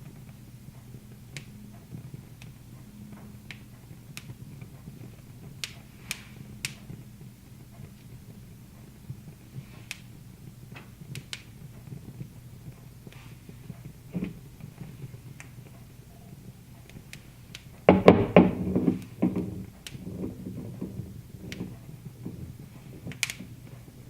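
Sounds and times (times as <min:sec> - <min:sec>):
low steady hum: 0:00.0 - 0:24.0
wood fire crackling and popping: 0:00.0 - 0:24.0.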